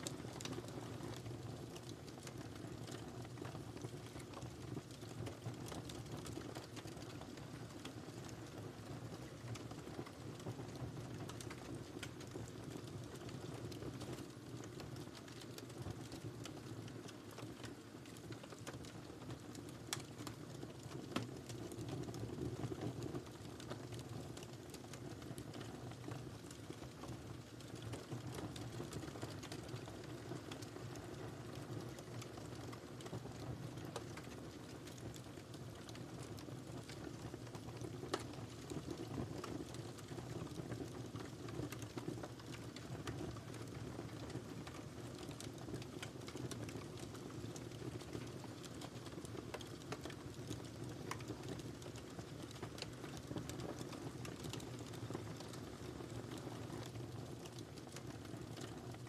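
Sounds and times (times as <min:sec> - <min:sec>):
wood fire burning: 0:00.0 - 0:59.0.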